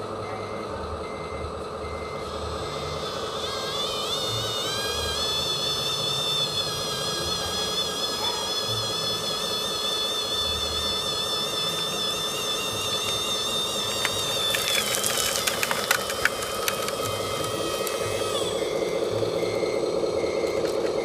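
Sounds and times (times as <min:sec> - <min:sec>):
toy truck motor whine: 0:00.0 - 0:21.0.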